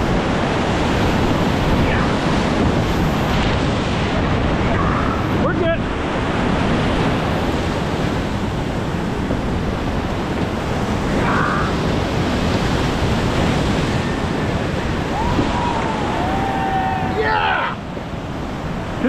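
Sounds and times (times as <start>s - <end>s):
churning whitewater rushing: 0.0s - 19.0s.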